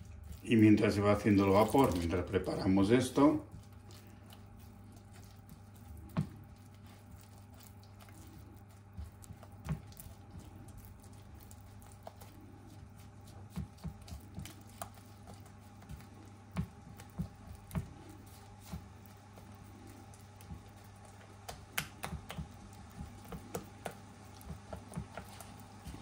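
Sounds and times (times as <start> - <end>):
wet squishing batter: 0.0 - 26.0.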